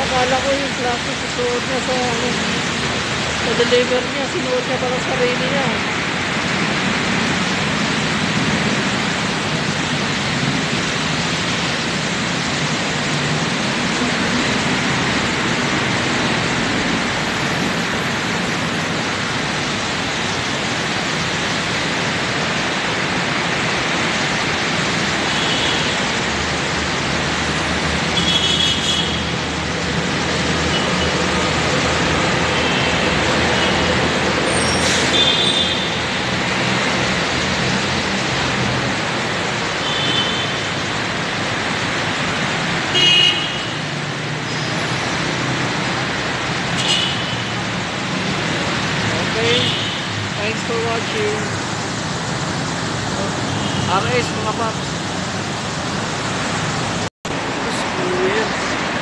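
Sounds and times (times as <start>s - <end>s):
traffic passing on wet road: 0.0s - 59.0s.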